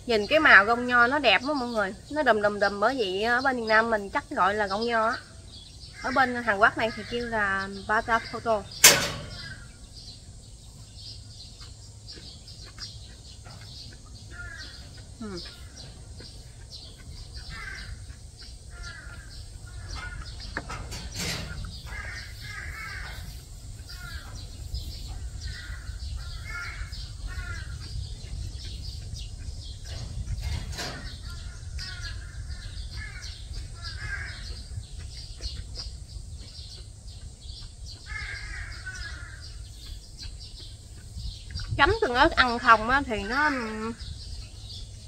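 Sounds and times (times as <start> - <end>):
birds making harsh calls: 0.0 - 45.0.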